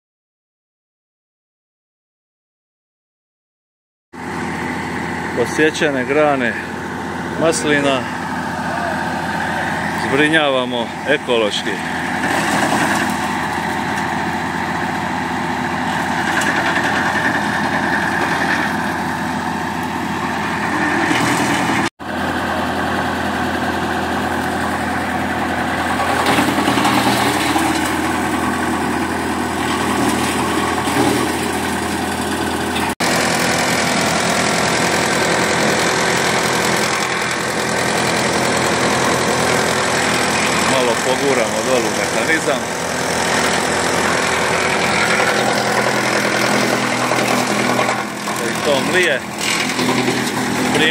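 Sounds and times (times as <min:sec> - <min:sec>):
tractor engine running wood chipper: 0:04.2 - 0:50.9.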